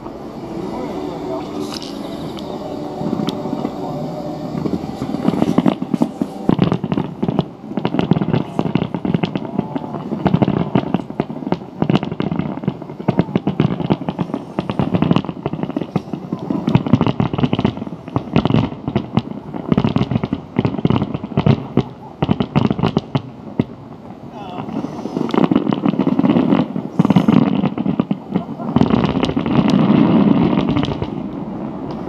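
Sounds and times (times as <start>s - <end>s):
fireworks bursting: 0.0s - 32.0s.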